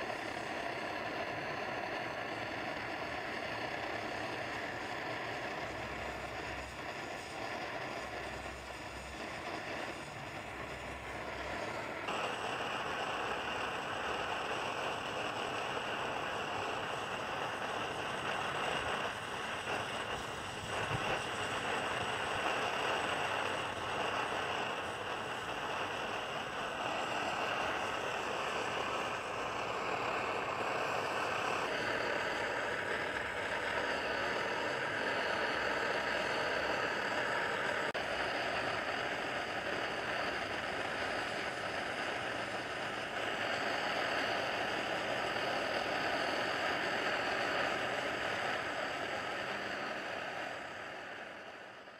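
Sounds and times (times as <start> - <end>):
camp stove burner hissing: 0.0 - 51.9.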